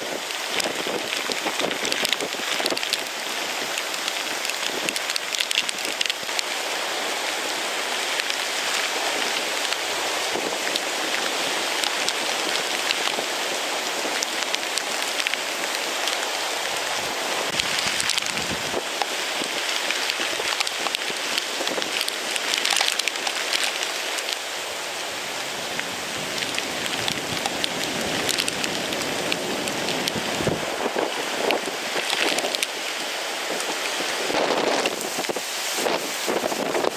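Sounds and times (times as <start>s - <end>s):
gusty wind: 0.0s - 36.9s
heavy rain pelting: 0.0s - 36.9s.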